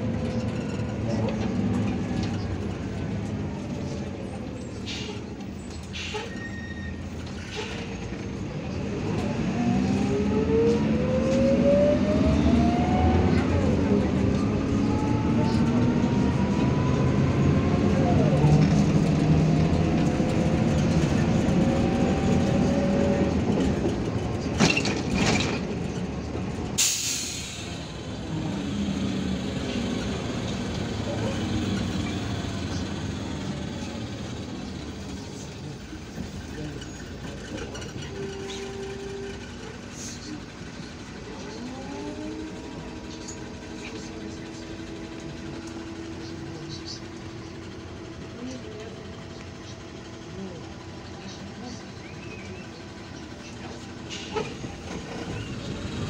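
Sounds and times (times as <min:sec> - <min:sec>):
bus engine whine: 0:00.0 - 0:56.0.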